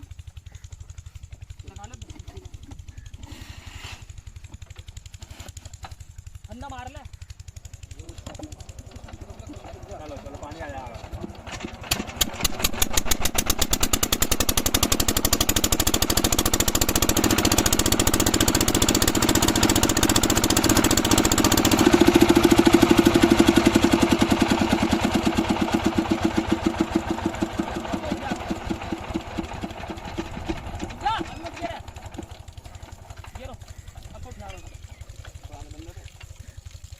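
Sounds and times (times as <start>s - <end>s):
diesel engine running: 0.0s - 36.7s.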